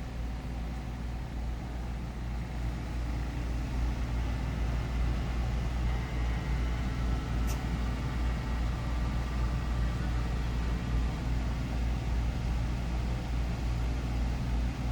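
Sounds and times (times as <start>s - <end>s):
stepper motors humming: 0.0s - 14.9s.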